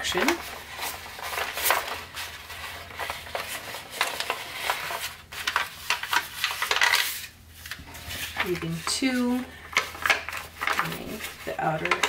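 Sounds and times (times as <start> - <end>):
paper rustling while folded: 0.0 - 12.0.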